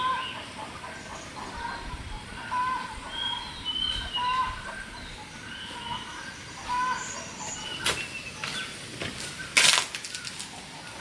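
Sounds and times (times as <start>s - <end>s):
birds whistling calls: 0.0s - 10.4s.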